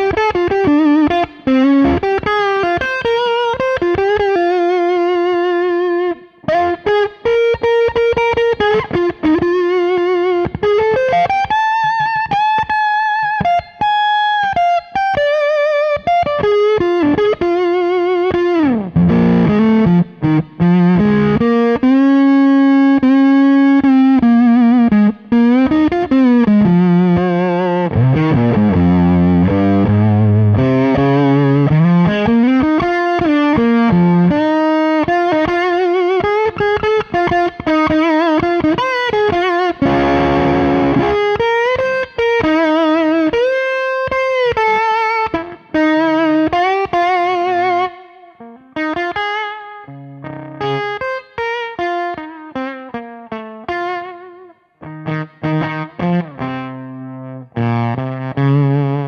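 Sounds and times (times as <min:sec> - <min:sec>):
fuzz electric guitar lead: 0:00.0 - 0:59.0.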